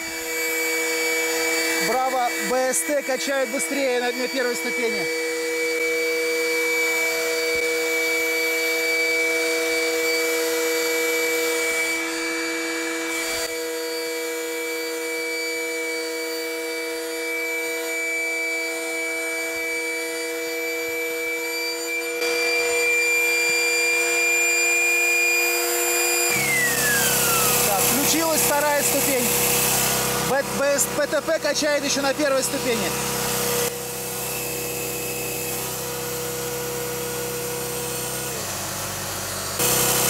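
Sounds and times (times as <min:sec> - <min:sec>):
electric air pumps whining: 0:00.0 - 0:40.0.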